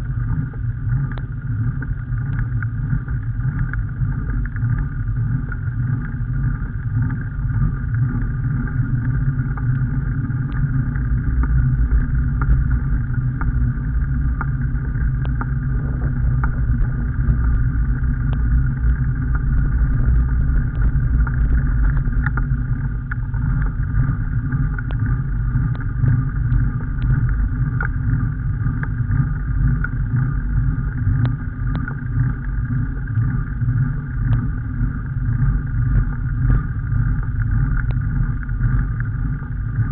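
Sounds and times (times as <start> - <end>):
engine and road rumble: 0.0 - 39.9
faint ticks: 0.3 - 7.3, 9.0 - 30.5, 31.2 - 39.9.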